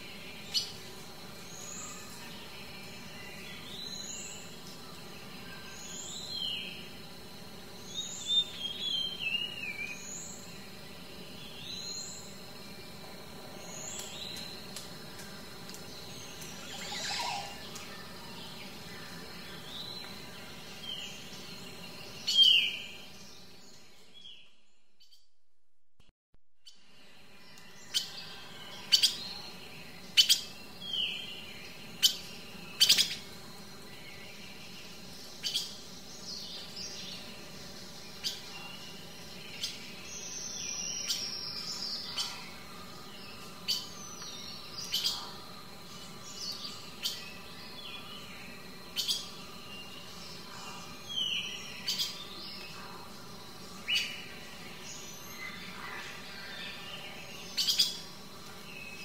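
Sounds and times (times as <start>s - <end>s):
songbirds chirping: 0.0s - 25.2s, 26.6s - 59.0s.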